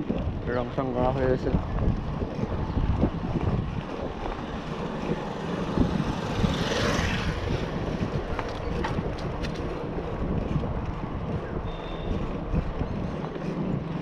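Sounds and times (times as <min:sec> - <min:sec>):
tyre rumble on asphalt: 0:00.0 - 0:14.0
wind buffeting microphone: 0:00.0 - 0:14.0.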